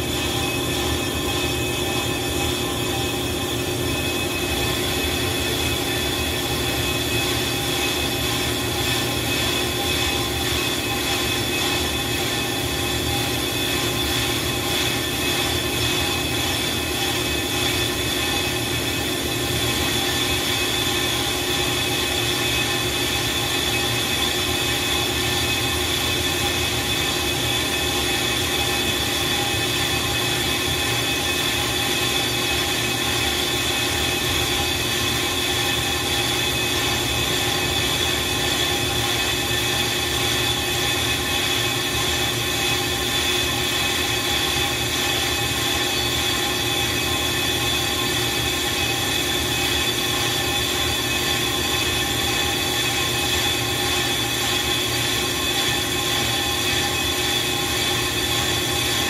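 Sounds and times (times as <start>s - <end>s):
brake lathe whine and ringing: 0.0s - 59.0s.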